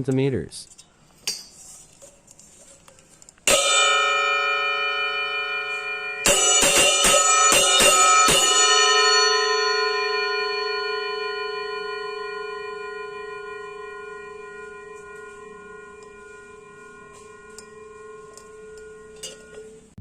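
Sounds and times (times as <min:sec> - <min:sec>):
cymbal strikes ringing: 0:03.4 - 0:20.0.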